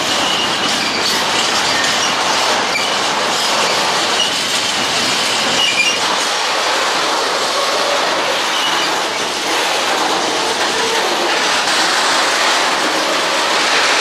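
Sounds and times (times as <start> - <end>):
wheels squealing: 0.0 - 6.4, 7.4 - 14.0
train wheels rolling on rail: 0.0 - 14.0.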